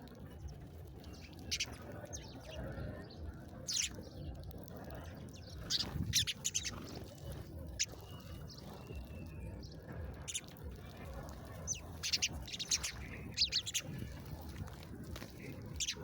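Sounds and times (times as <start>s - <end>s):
low background noise: 0.0s - 16.0s
songbird chirping: 0.0s - 16.0s.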